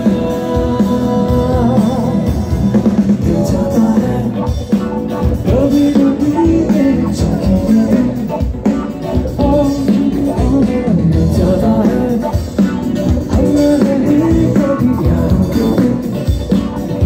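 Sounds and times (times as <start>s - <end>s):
drums beating: 0.0s - 17.0s
electric guitar: 0.0s - 17.0s
live rock band playing: 0.0s - 17.0s
person singing: 0.0s - 17.0s.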